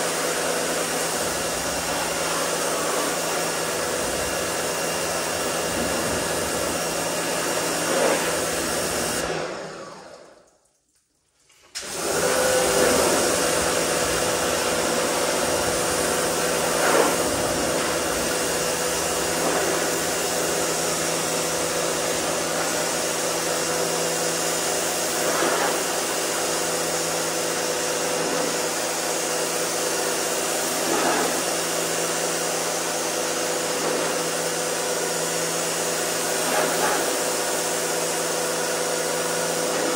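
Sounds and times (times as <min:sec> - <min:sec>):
pressure washer motor hum: 0:00.0 - 0:10.5, 0:11.6 - 0:39.9.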